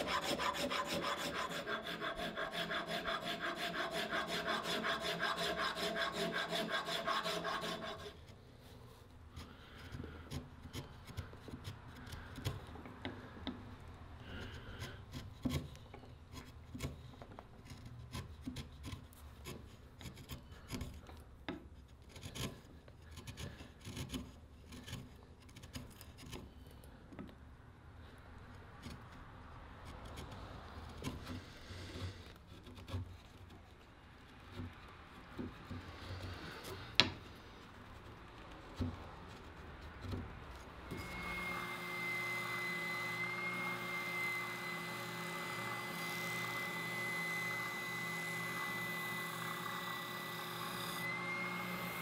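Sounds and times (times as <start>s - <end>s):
rasp scraping wood: 0.0s - 26.8s, 29.8s - 52.0s.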